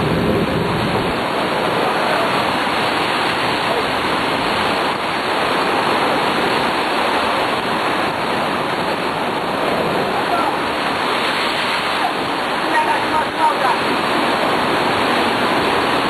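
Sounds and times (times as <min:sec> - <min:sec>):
loud rushing noise: 0:00.0 - 0:16.0.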